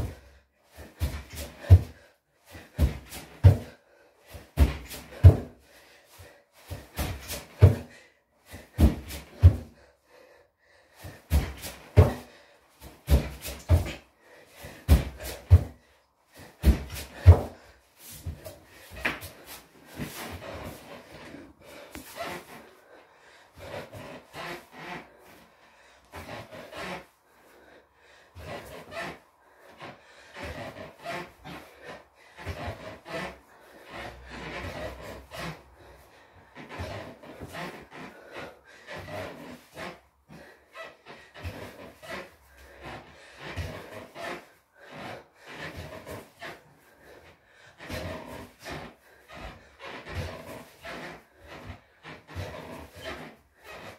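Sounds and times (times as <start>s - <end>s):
person breathing hard: 0.0s - 53.9s.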